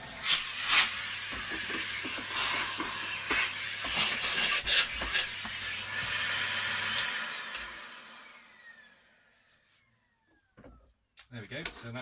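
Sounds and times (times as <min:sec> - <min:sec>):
electric motor whine: 0:01.0 - 0:10.7.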